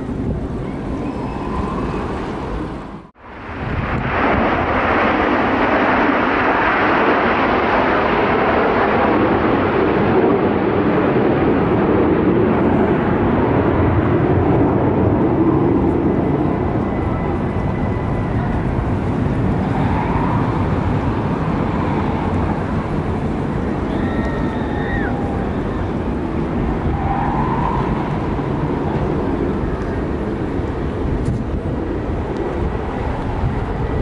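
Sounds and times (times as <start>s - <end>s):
jet aircraft rushing overhead: 0.0s - 34.0s.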